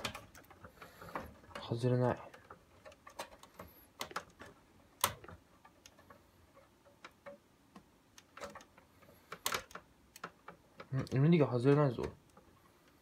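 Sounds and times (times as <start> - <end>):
light plastic clicks and taps: 0.0 - 13.0.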